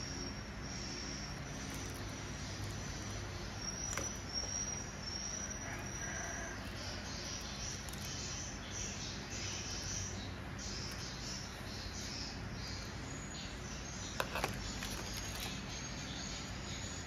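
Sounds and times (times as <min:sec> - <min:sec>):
insects chirping trill: 0:00.0 - 0:17.0.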